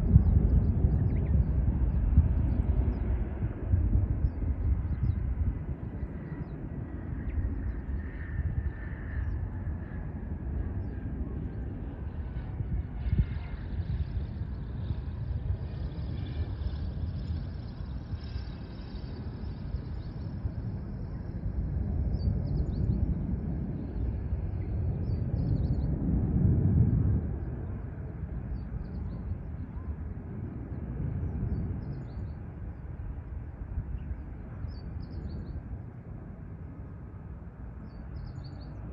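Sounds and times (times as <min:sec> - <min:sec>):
distant jet engines rumbling: 0:00.0 - 0:38.9.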